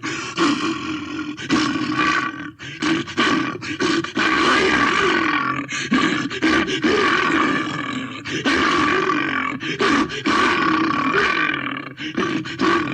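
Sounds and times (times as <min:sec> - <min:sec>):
bear growling and roaring: 0:00.0 - 0:12.9.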